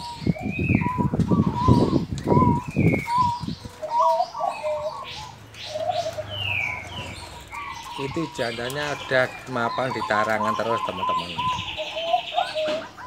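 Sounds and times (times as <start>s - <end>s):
dove cooing: 0.0s - 13.0s
small birds chirping and whistling: 0.0s - 13.0s.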